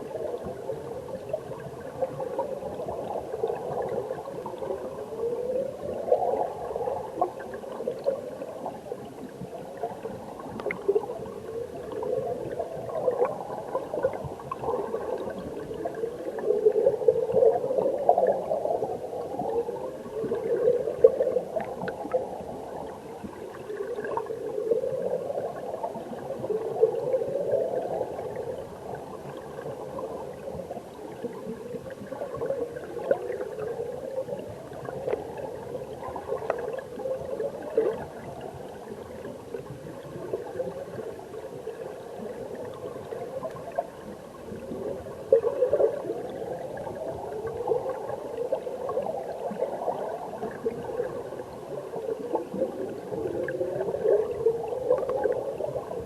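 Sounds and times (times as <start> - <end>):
stream water heard underwater: 0.0 - 56.0.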